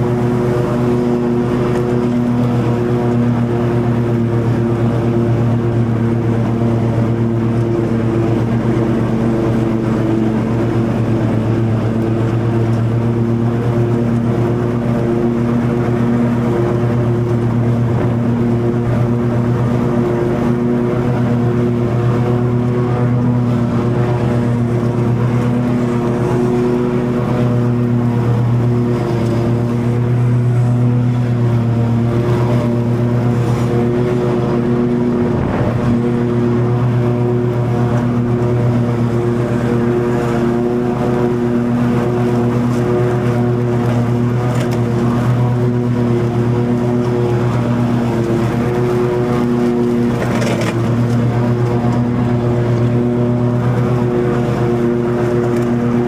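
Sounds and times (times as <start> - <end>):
lawn mower cutting grass: 0.0 - 56.0.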